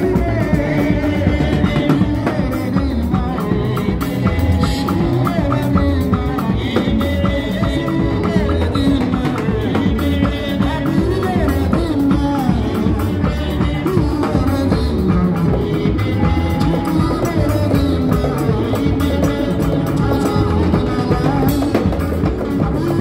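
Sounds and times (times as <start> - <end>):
bass guitar: 0.0 - 23.0
drum kit beat: 0.0 - 23.0
hand drums: 0.0 - 23.0
keyboard: 0.0 - 23.0
man singing into a microphone: 0.0 - 23.0.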